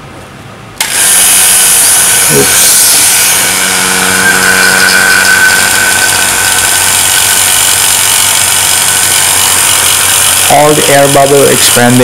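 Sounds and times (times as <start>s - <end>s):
vacuum pump hissing: 0.8s - 12.0s.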